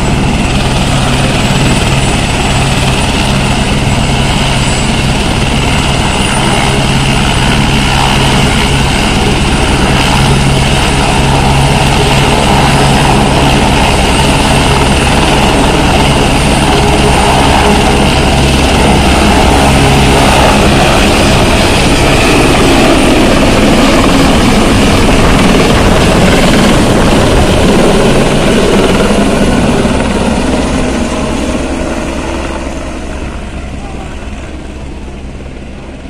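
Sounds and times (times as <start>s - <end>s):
helicopter rotor beat: 0.0s - 36.0s
helicopter turbine noise: 0.0s - 36.0s.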